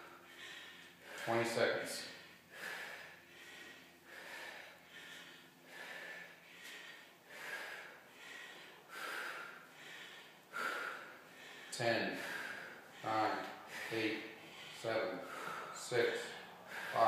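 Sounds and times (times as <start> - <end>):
woman breathing heavily: 0.0 - 17.0.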